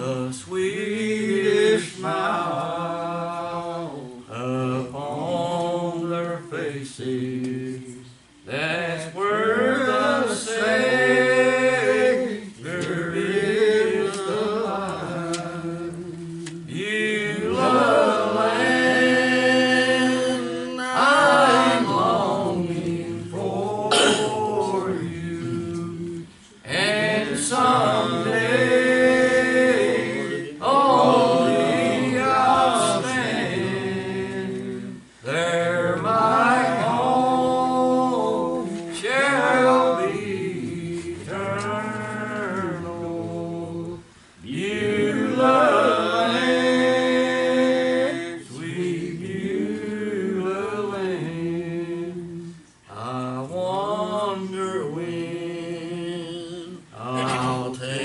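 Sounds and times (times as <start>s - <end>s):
voices singing gospel song: 0.0s - 58.0s.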